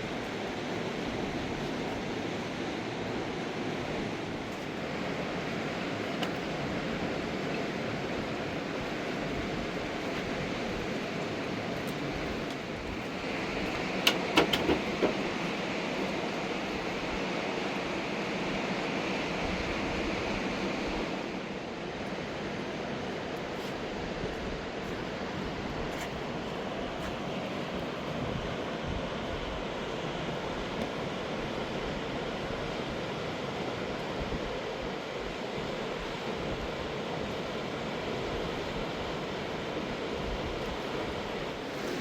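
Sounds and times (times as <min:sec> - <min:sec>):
mountain river rushing: 0:00.0 - 0:42.0.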